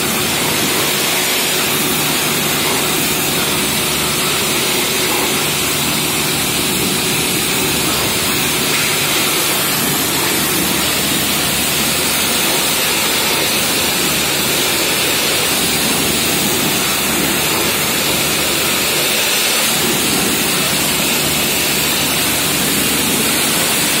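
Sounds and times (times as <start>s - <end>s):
pressure washer jet hissing on plastic: 0.0s - 24.0s
pressure washer machine running: 0.0s - 24.0s.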